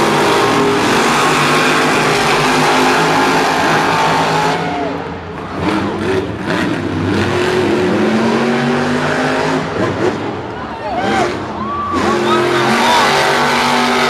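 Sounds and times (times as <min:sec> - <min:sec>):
truck engines revving: 0:00.0 - 0:14.0.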